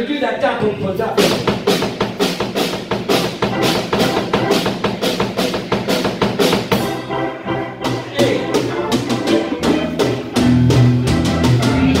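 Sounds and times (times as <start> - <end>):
bass tones: 0.4 - 12.0
drum kit beat: 0.5 - 12.0
organ tones: 0.7 - 12.0.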